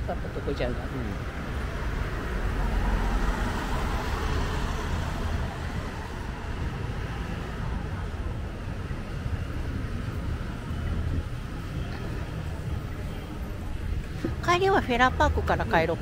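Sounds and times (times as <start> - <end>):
passing road traffic: 0.0 - 16.0.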